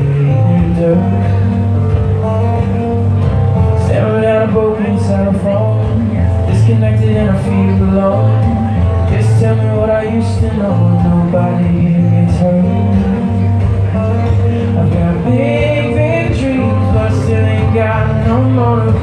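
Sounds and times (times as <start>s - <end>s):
man singing: 0.0s - 19.0s
strummed acoustic guitar: 0.0s - 19.0s.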